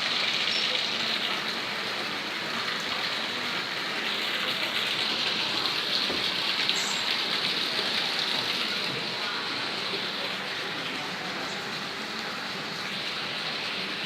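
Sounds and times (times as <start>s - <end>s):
rushing water hiss: 0.0s - 14.0s.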